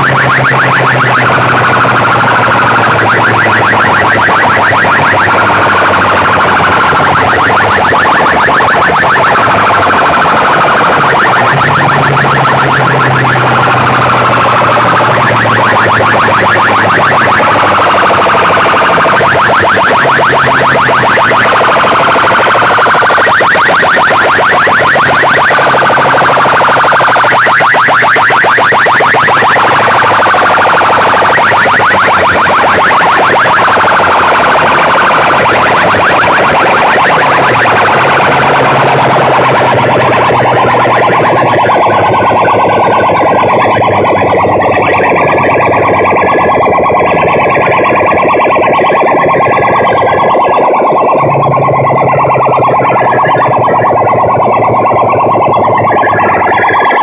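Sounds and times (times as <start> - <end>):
distorted siren-like electronic tone: 0.0 - 57.0.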